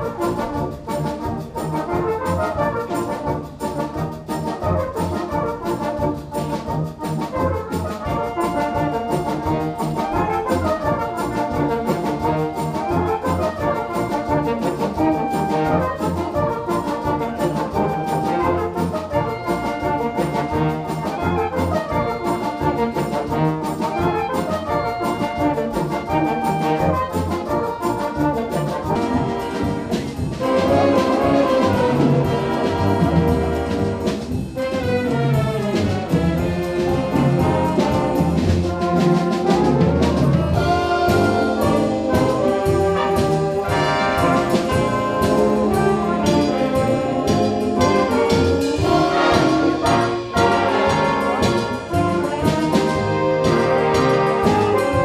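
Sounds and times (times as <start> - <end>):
brass and clarinets playing tune: 0.0 - 55.0
percussion beat: 0.0 - 55.0.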